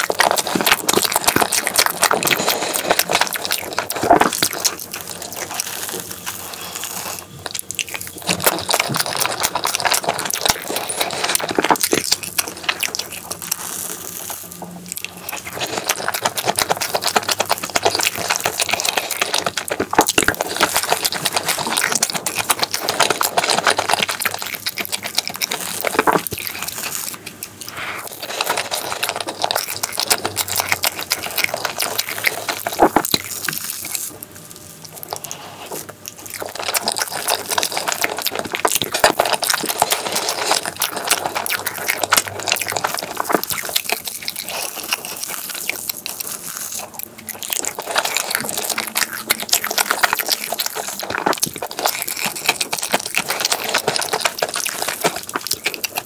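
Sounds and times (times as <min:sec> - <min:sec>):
wet chewing mouth sounds: 0:00.0 - 0:56.0.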